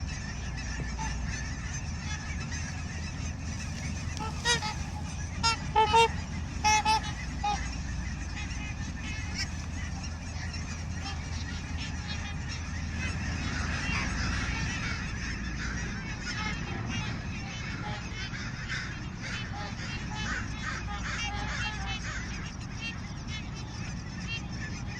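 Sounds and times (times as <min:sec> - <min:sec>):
flock of birds calling: 0:00.0 - 0:24.9
steady low rumble: 0:00.0 - 0:24.9.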